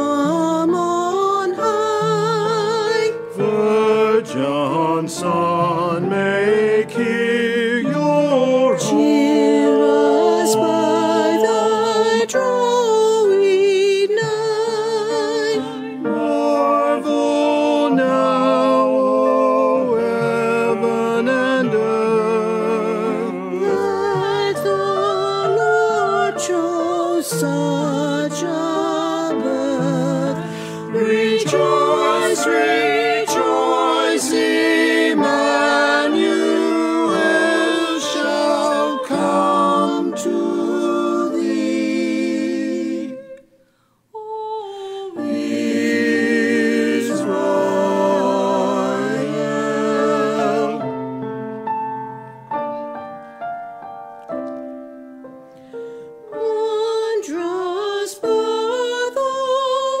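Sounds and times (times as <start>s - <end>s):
piano accompaniment: 0.0s - 43.4s, 45.1s - 60.0s
church choir singing: 0.0s - 43.6s, 44.6s - 51.7s, 56.3s - 60.0s.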